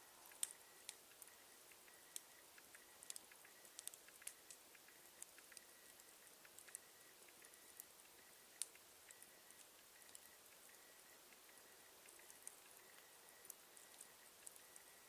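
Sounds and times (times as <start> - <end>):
campfire crackling: 0.2 - 15.0.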